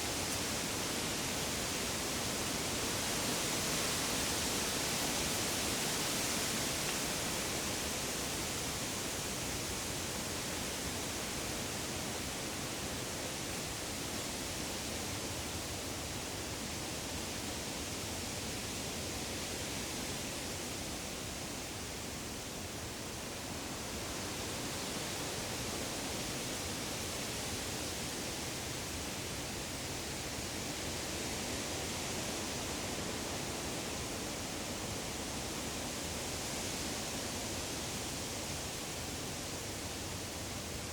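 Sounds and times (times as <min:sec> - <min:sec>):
woodland rushing hiss: 0:00.0 - 0:40.9.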